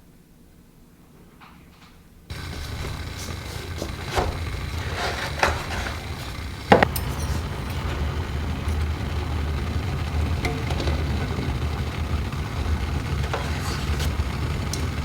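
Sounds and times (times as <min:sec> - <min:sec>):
steady low rumble: 0:02.3 - 0:15.0.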